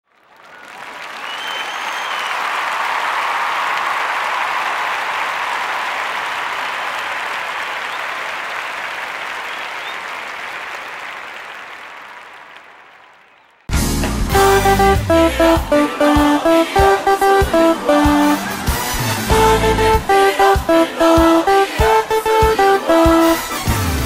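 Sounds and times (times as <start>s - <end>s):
crowd applause: 0.1s - 13.7s, 14.3s - 24.0s.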